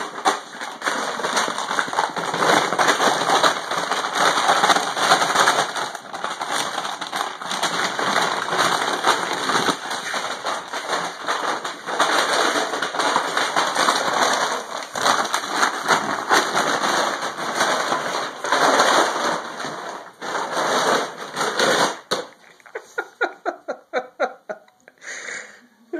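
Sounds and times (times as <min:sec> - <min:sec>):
plastic bag crinkling: 0:00.0 - 0:24.3.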